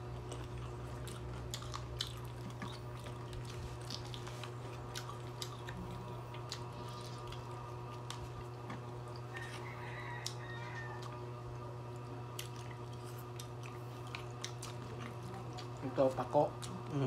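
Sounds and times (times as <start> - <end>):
chewing and wet mouth sounds: 0.0 - 17.0
steady low hum: 0.0 - 17.0.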